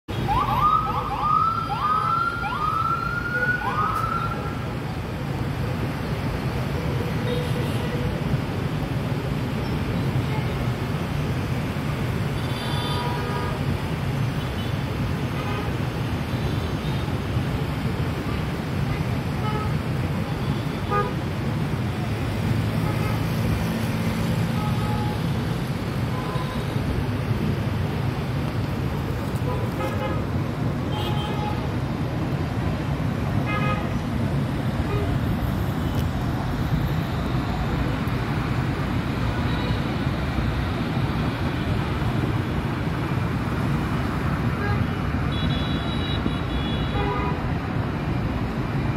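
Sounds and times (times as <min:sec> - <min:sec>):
dense road traffic rumble: 0:00.0 - 0:48.9.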